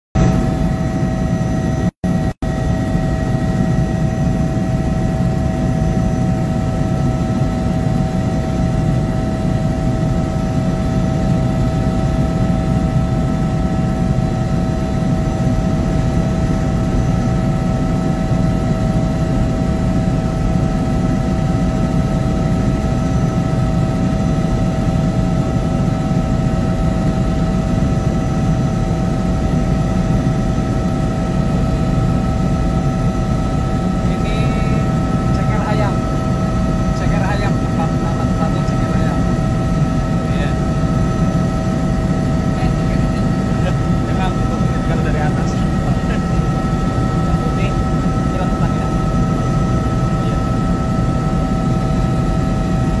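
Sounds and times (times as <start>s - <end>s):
constant whining tones: 0.2s - 53.0s
helicopter engine and rotor drone: 0.2s - 53.0s.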